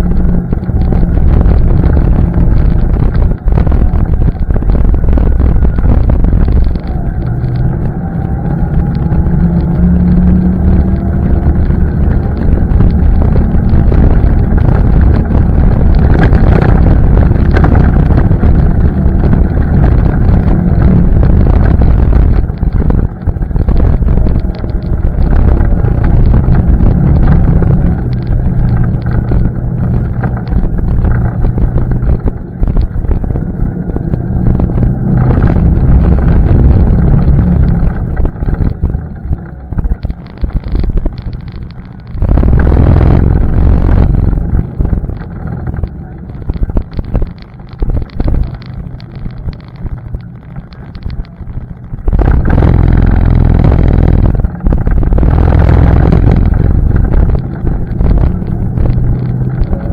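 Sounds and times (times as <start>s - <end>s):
atv engine revving: 0.0s - 49.1s, 52.2s - 59.9s.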